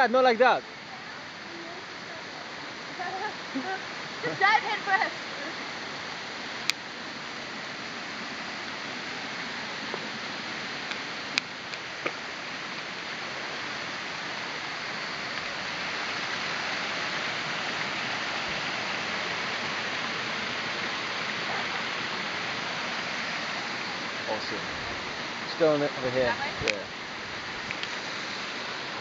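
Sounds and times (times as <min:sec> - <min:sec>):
waterfalls rushing: 0:00.0 - 0:29.0.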